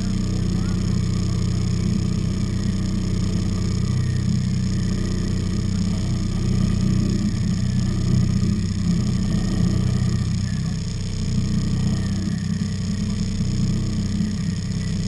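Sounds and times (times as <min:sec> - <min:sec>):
boat engine low drone: 0:00.0 - 0:15.0.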